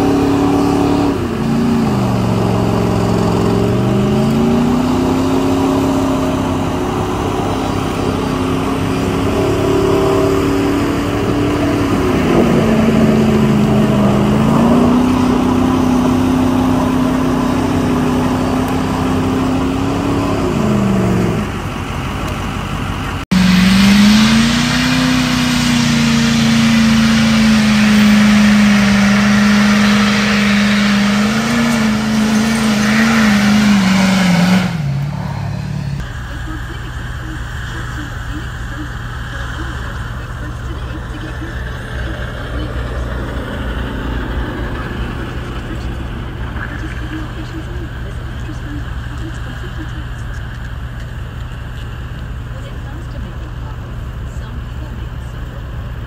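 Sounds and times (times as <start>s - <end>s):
tires spinning hiss: 0.0s - 56.0s
truck engine at high revs: 0.0s - 56.0s.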